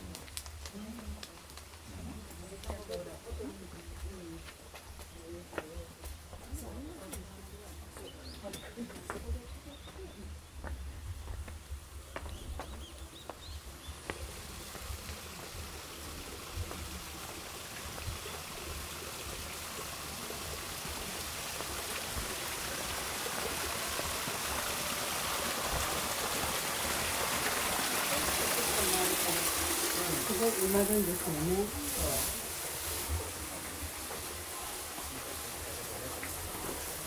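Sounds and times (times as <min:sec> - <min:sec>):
running water: 0:00.0 - 0:37.0.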